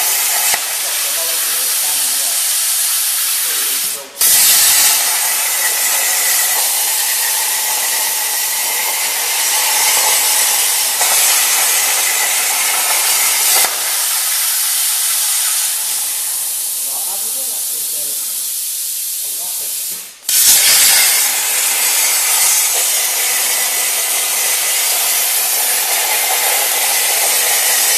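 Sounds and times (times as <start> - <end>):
air hissing: 0.0 - 27.9
plasma arc hissing: 0.0 - 27.9.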